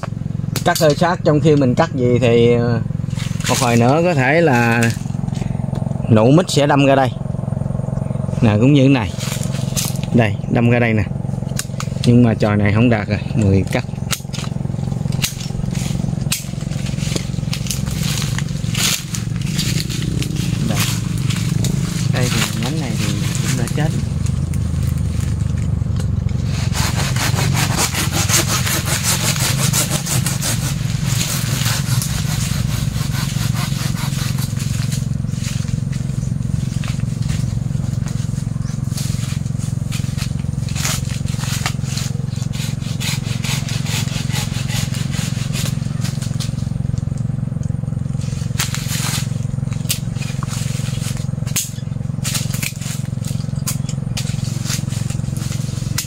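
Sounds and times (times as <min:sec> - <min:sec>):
hand saw cutting branches: 0:00.0 - 0:07.0, 0:08.3 - 0:56.0
steady low hum: 0:00.0 - 0:56.0
branches cracking and rustling: 0:02.9 - 0:56.0.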